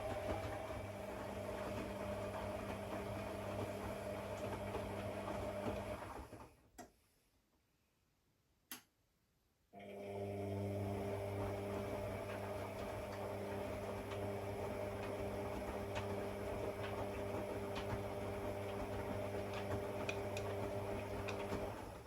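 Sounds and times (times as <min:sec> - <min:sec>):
washing machine hum: 0:00.0 - 0:06.6, 0:09.8 - 0:22.0.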